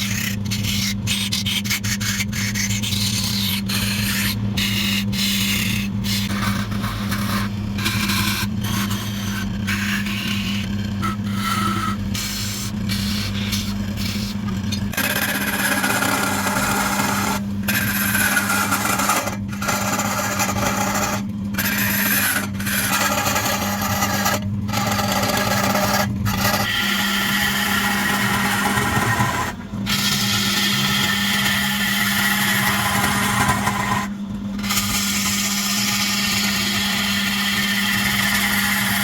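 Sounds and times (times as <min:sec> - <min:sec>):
turning tool scraping wood: 0:00.0 - 0:39.0
wood lathe motor hum: 0:02.9 - 0:39.0.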